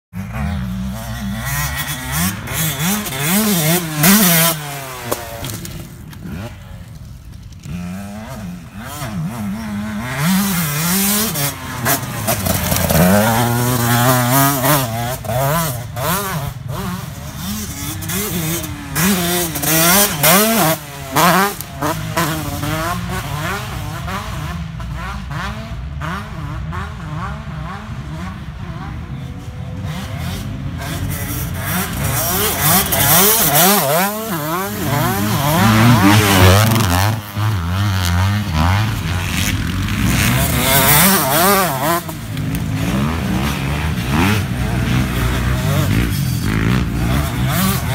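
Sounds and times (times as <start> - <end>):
dirt bike engine revving: 0.2 - 7.0, 7.6 - 47.9.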